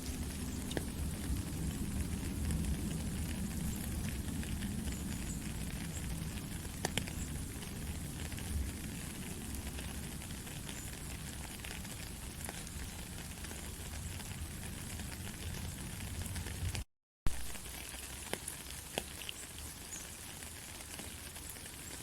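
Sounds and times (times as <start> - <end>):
steady rain pattering: 0.0 - 22.0.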